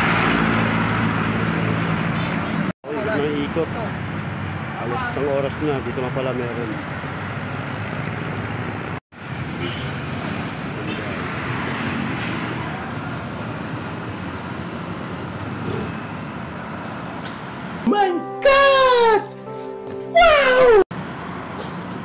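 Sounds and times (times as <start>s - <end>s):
vehicles passing on street: 0.0s - 22.0s.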